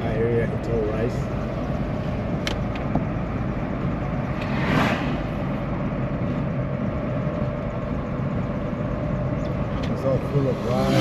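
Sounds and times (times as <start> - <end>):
vehicle rumble on road: 0.0 - 11.0.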